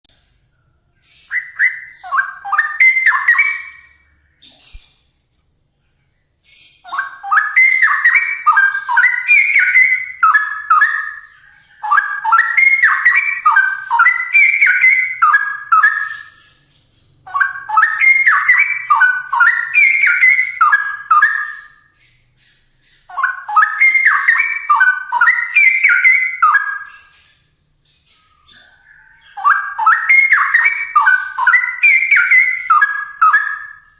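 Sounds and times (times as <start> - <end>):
bird singing gliding notes: 0.2 - 5.0, 6.4 - 33.9.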